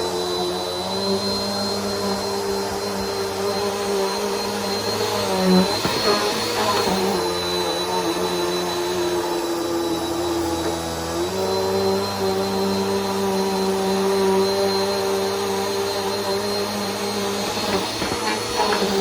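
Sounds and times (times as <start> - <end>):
upright vacuum cleaner running: 0.0 - 19.0.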